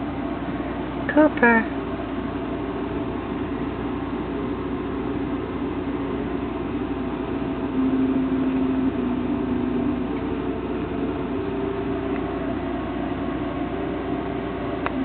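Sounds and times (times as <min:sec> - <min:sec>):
droning tone: 0:00.0 - 0:15.0
low hum and rumble: 0:00.0 - 0:15.0.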